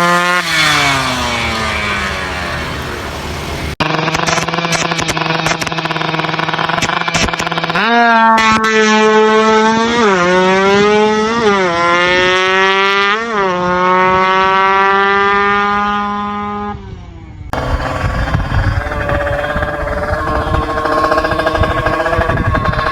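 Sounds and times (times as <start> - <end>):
motorcycle engine revving: 0.0 - 16.8, 17.5 - 22.9.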